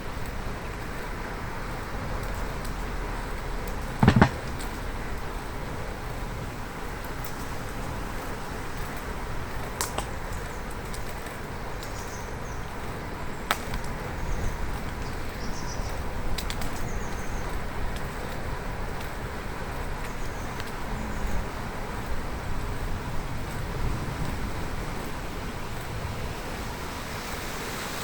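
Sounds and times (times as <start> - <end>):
wind and bicycle tyre noise: 0.0 - 28.0.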